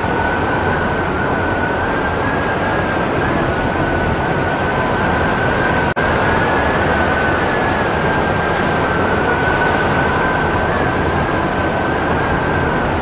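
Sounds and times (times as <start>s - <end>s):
high wind whistle: 0.0s - 13.0s
low wind whistle: 0.0s - 13.0s
strong wind rushing: 0.0s - 13.0s.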